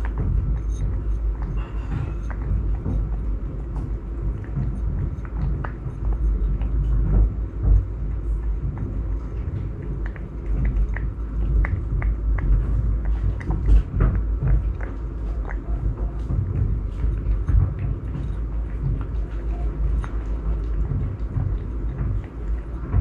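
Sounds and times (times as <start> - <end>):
cat licking and chewing: 0.0 - 23.0
heavy low rumble: 0.0 - 23.0.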